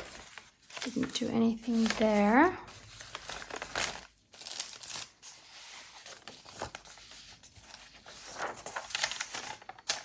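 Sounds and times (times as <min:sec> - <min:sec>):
paper pages rustling: 0:00.0 - 0:10.0.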